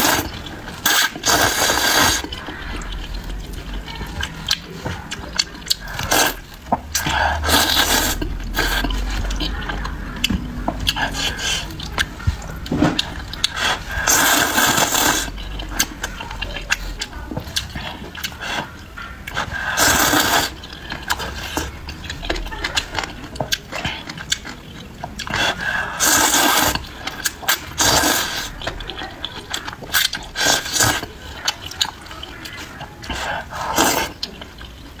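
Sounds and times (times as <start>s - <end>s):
slurping noodles: 0.0s - 9.9s, 10.8s - 23.9s, 25.2s - 35.0s
wet chewing: 0.0s - 35.0s.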